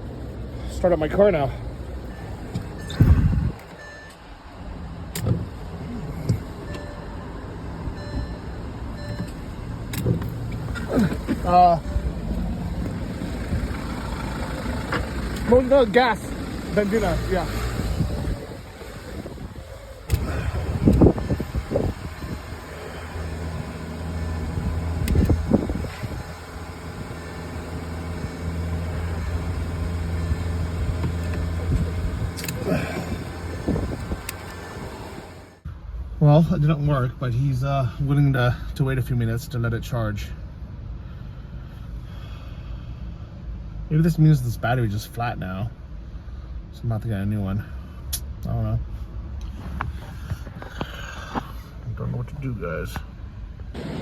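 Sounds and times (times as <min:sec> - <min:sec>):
engine hum: 0:00.0 - 0:54.0.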